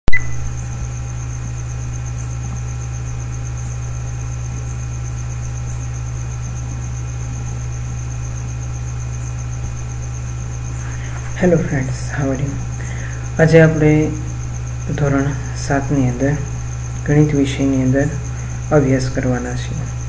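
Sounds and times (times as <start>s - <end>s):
electrical mains hum: 0.1s - 20.0s
faint high whine: 0.1s - 20.0s.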